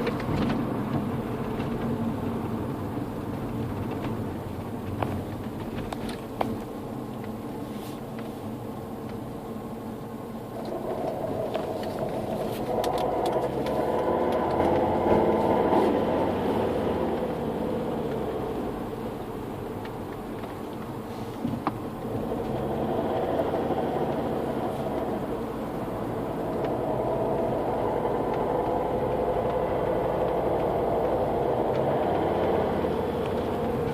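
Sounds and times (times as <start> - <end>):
diesel engine running: 0.0 - 33.9
strange engine bay noise: 0.0 - 33.9.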